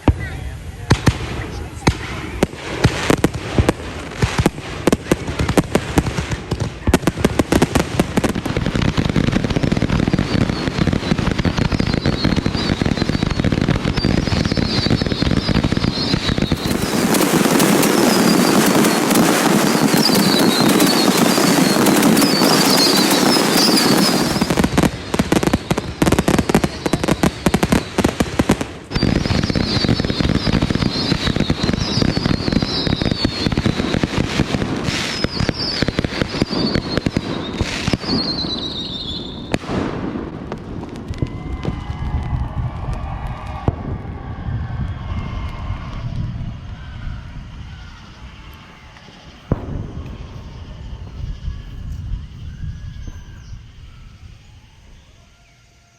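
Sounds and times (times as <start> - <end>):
fireworks bangs and crackles: 0.0 - 55.7.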